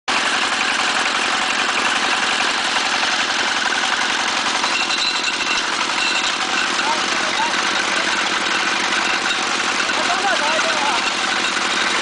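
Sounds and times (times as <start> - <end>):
drilling rig running: 0.1 - 12.0.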